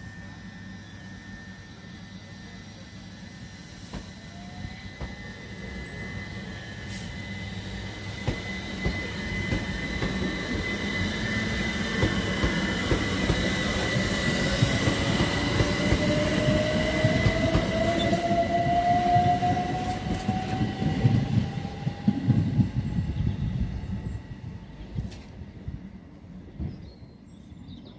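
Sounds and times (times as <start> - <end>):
train moving along track: 0.0 - 27.9.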